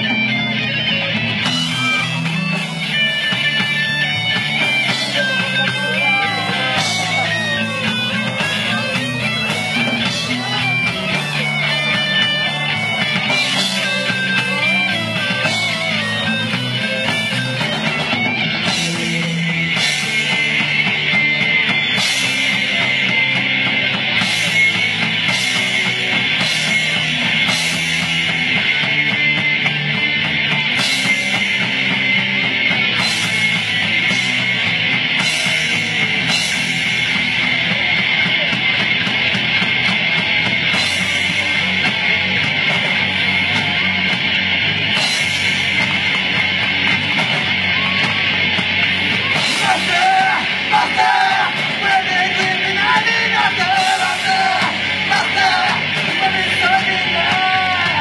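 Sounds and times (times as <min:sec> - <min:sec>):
guitar lead line bending: 0:00.0 - 0:58.0
heavy metal band playing: 0:00.0 - 0:58.0.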